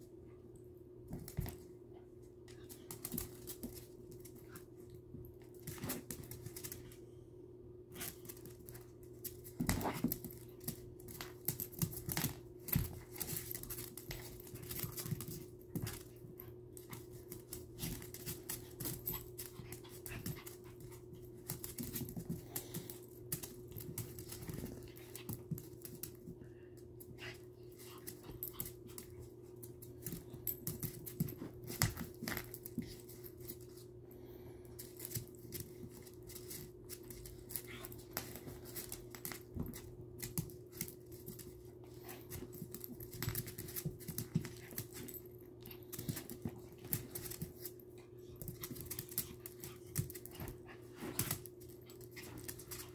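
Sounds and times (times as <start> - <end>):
dog claws clicking on floor: 2.5 - 7.0, 7.9 - 26.4, 27.0 - 33.8, 34.7 - 52.9.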